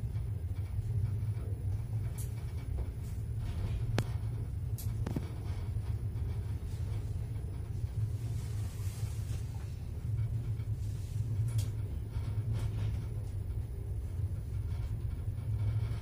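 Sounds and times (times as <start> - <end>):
train coach rumbling on track: 0.0 - 16.0.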